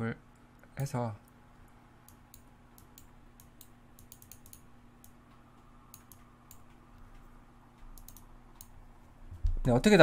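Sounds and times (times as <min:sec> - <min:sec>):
low steady hum: 0:00.0 - 0:10.0
computer mouse clicks: 0:00.6 - 0:08.8.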